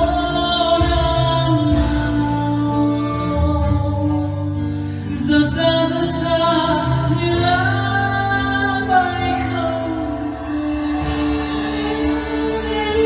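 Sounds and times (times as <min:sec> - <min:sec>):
acoustic guitar: 0:00.0 - 0:13.0
drums: 0:00.0 - 0:13.0
man singing into a microphone: 0:00.0 - 0:13.0
violin: 0:00.0 - 0:13.0.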